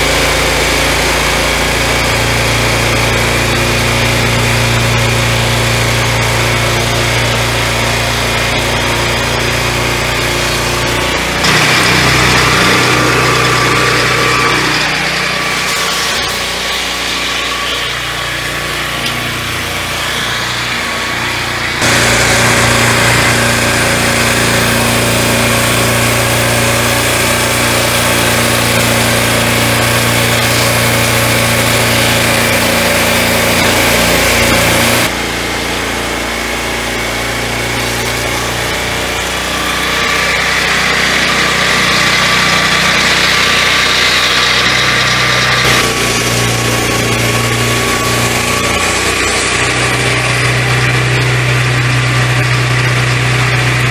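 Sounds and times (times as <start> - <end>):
sawmill sawing through log: 0.0 - 53.9.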